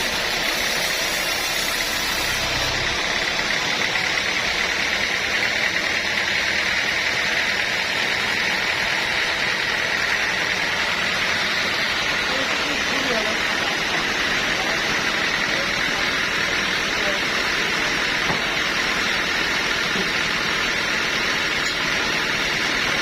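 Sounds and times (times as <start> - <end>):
saw cutting wood: 0.0 - 23.0.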